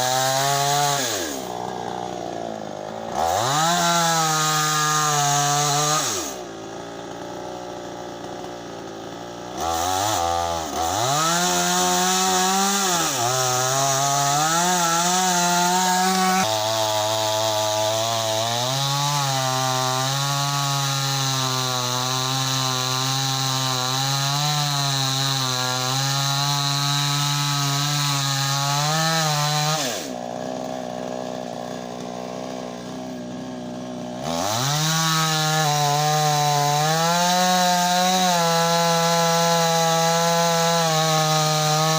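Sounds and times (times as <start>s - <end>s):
chainsaw engine revving: 0.0s - 41.9s.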